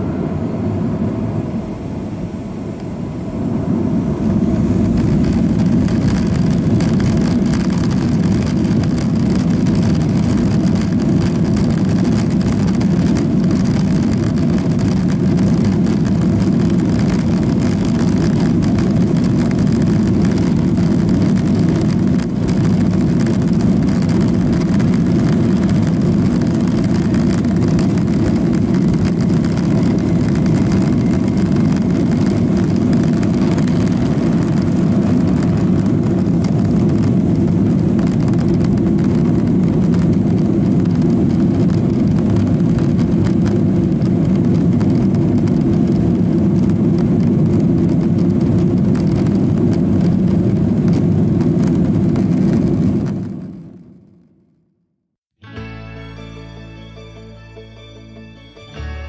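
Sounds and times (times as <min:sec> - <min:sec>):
jet engines at takeoff power: 0:00.0 - 0:54.2.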